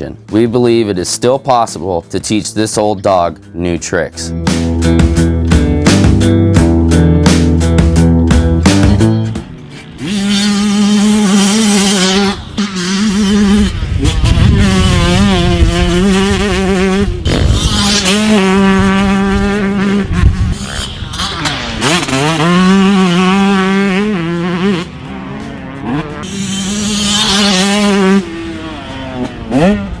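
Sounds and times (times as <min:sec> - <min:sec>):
motocross bike engine revving: 0:05.9 - 0:30.0.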